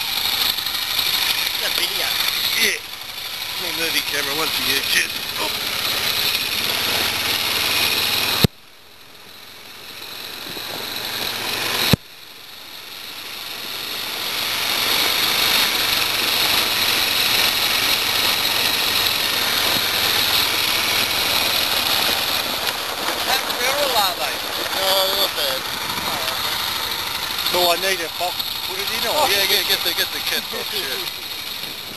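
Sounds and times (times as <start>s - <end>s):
quad bike engine running: 0.0s - 31.9s.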